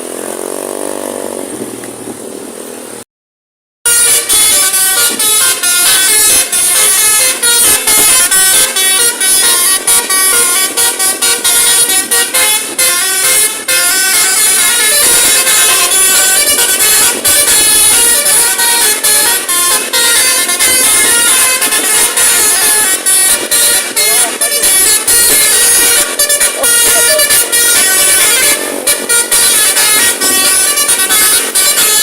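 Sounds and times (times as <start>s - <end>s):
musical air horns playing melody: 3.9s - 32.0s.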